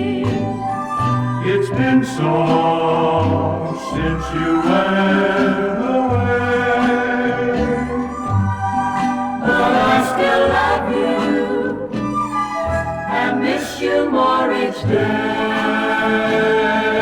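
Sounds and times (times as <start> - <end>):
female vocal group singing in harmony: 0.0 - 8.4, 9.2 - 17.0
instrumental backing: 0.0 - 17.0.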